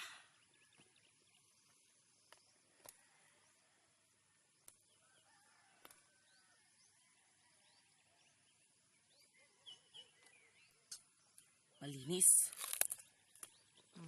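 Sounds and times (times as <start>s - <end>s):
faint bird chirps: 0.0s - 12.3s.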